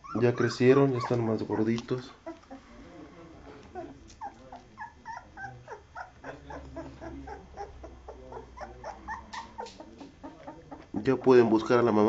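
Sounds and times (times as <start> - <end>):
puppies squeaking and whimpering: 0.0 - 2.8, 3.7 - 12.0.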